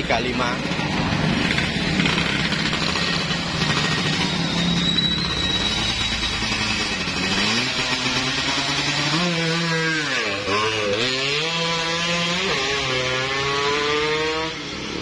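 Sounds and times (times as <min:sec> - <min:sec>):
two-stroke moped engine revving: 0:00.0 - 0:15.0.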